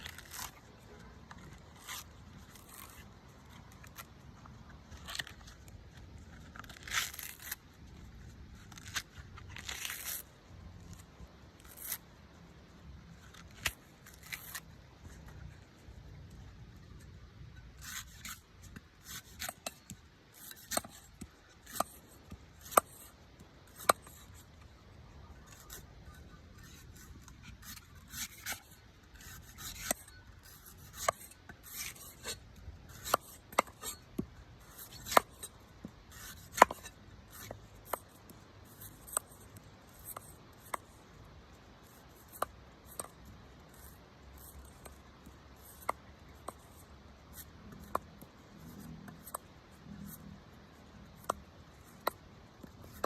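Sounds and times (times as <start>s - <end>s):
knife cutting and scraping coconut: 0.0s - 53.0s.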